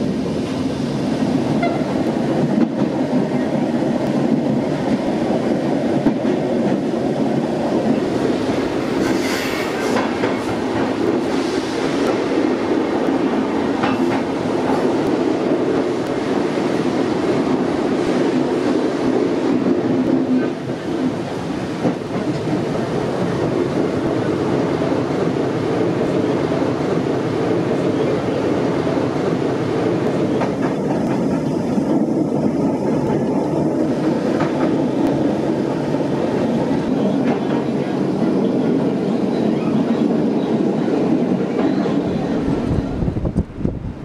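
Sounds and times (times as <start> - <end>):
train wheels rolling on rails: 0.0 - 44.0.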